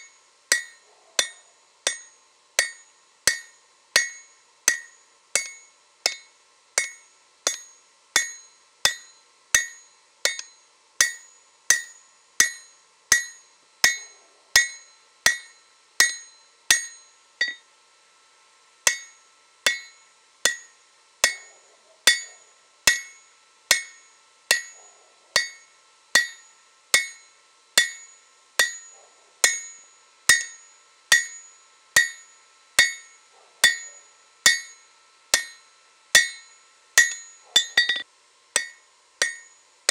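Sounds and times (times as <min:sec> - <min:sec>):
hammer striking steel on anvil: 0:00.0 - 0:17.7, 0:18.9 - 0:24.8, 0:25.4 - 0:39.9.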